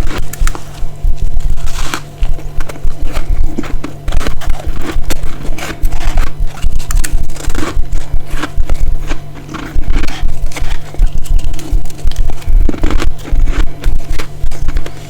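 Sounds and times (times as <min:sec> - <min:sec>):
crunching chewing of frost: 0:00.0 - 0:15.0.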